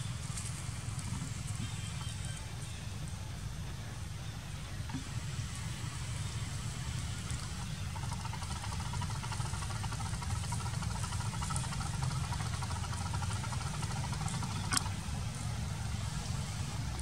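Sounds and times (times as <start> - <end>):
mid-pitched hum: 0.0 - 17.0
vehicle engine rumbling: 0.0 - 17.0.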